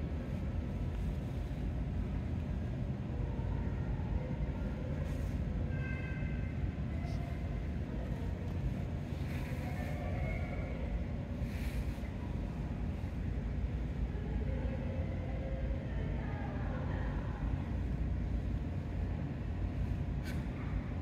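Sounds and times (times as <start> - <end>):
faint distant voices: 0.0 - 21.0
low indoor room rumble: 0.0 - 21.0.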